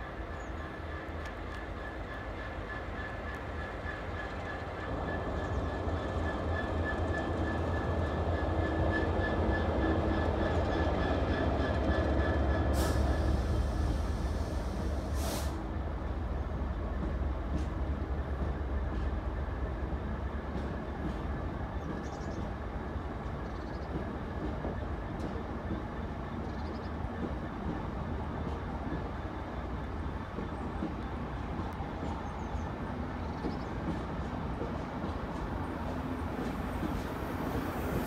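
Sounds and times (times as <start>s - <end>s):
diesel locomotive engine: 0.0s - 38.0s.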